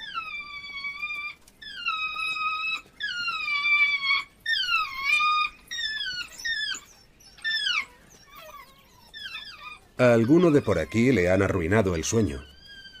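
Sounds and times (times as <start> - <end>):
wild dogs whining: 0.0 - 13.0.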